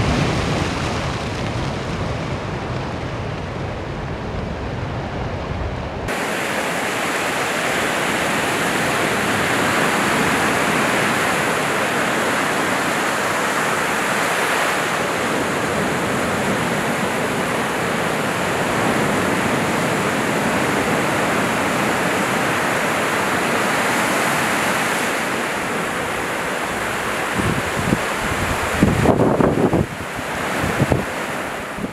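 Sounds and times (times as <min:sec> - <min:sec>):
waves washing up the shore: 0:00.0 - 0:31.9.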